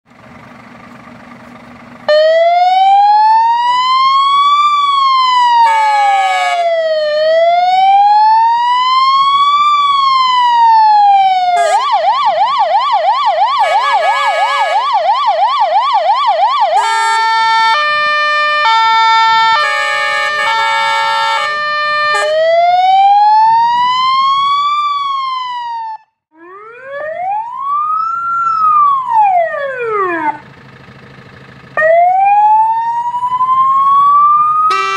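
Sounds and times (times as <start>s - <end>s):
fire engine idling: 0.1s - 23.1s, 26.8s - 34.9s
fire engine siren: 2.0s - 34.9s.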